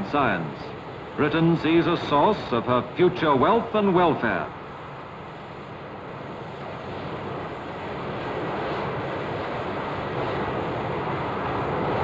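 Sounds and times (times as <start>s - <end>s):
jet engine running: 0.0s - 12.0s.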